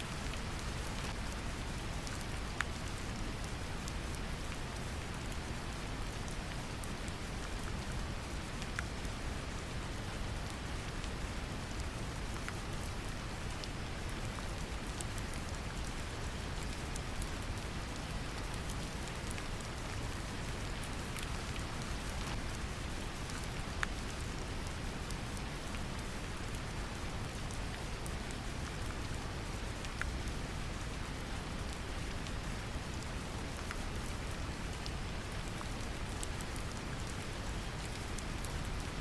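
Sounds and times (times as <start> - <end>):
rain falling on a surface: 0.0 - 39.0.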